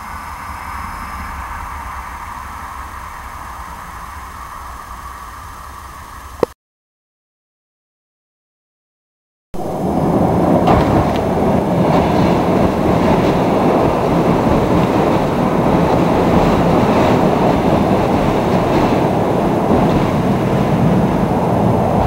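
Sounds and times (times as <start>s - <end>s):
train rumbling over steel bridge: 0.0s - 6.4s, 9.6s - 22.0s.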